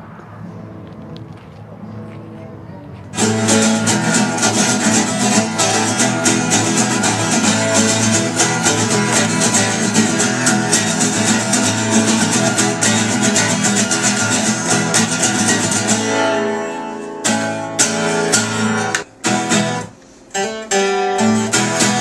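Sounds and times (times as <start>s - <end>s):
strummed acoustic guitar: 3.1s - 22.0s.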